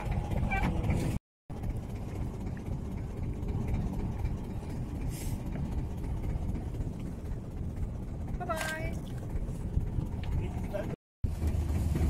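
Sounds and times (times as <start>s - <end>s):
boat low rumble: 0.0s - 12.0s.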